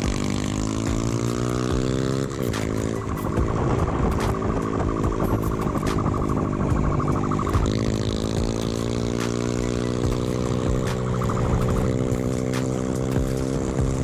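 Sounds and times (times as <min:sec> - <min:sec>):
vehicle engine running hard: 0:00.0 - 0:14.0.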